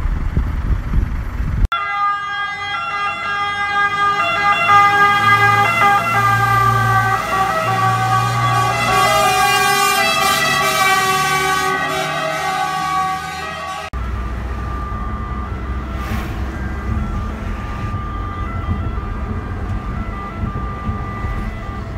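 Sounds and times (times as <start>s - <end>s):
car engine and road rumble: 0.0s - 21.9s
two-tone siren: 1.7s - 21.9s.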